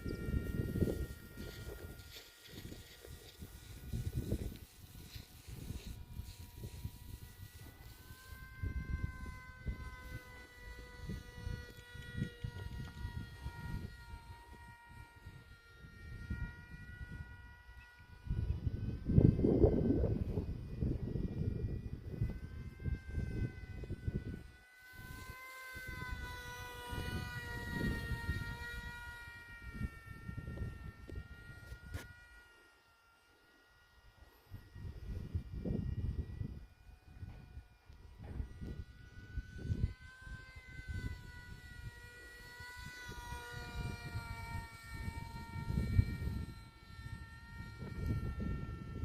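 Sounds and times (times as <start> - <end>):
wind buffeting microphone: 0.0 - 32.1, 34.4 - 49.0
electric motor and propeller whining: 0.0 - 49.0.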